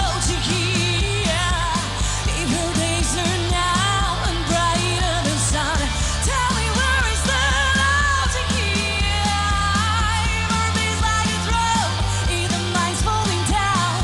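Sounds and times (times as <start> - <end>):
bass and drums: 0.0 - 14.0
person singing: 0.0 - 14.0.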